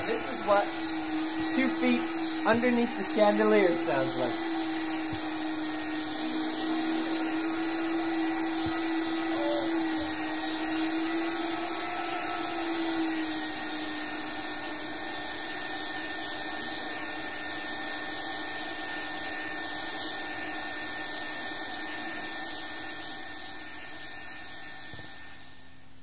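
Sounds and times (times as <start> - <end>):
vacuum cleaner motor running: 0.0 - 26.0.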